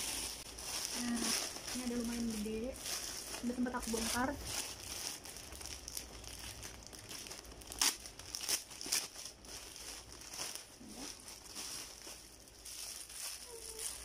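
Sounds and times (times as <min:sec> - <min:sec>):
packaging crinkling and rustling: 0:00.0 - 0:14.0
sharp packaging crackles: 0:00.0 - 0:14.0.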